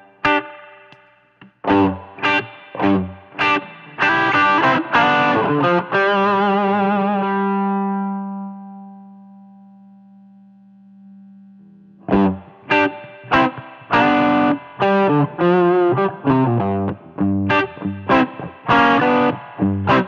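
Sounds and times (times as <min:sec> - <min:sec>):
overdriven electric guitar: 0:00.0 - 0:20.0.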